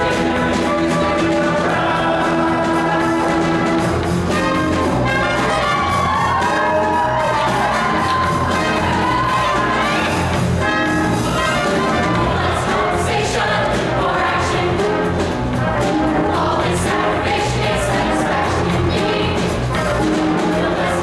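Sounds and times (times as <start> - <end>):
choir singing: 0.0 - 21.0
instrumental accompaniment: 0.0 - 21.0.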